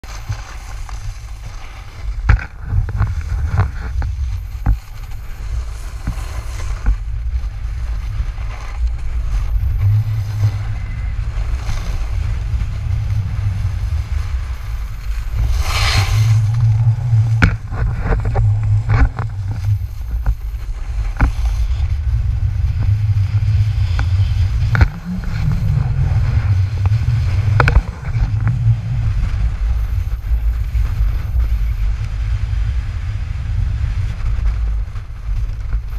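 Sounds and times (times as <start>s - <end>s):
snowboard scraping over snow: 0.0s - 35.9s
wind buffeting microphone: 0.0s - 35.9s.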